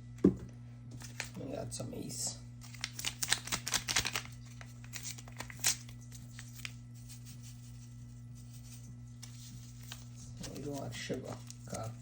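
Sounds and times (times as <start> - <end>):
low electrical hum: 0.0 - 12.0
packaging rustling and tearing: 1.0 - 1.4, 2.6 - 12.0.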